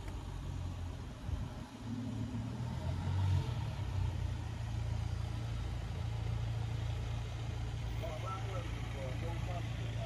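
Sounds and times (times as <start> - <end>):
vehicle engine idling low: 0.0 - 10.0.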